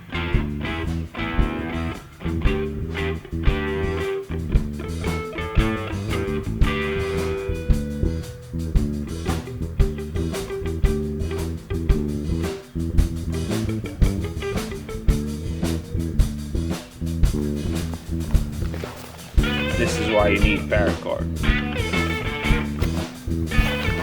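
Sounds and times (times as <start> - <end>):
electric guitar: 0.0 - 18.7, 19.3 - 24.0
rock music: 0.0 - 24.0
drums beat: 0.2 - 24.0.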